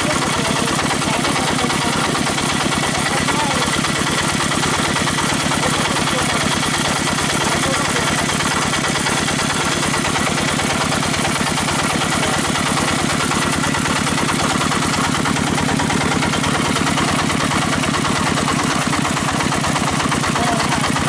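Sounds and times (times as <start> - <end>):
diesel engine chugging over loudspeakers: 0.0 - 21.0.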